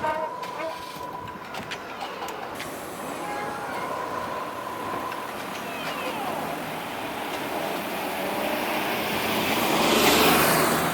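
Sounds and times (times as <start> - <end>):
train rumbling and hissing: 0.0 - 10.9
wheels squealing on rails: 0.0 - 10.9.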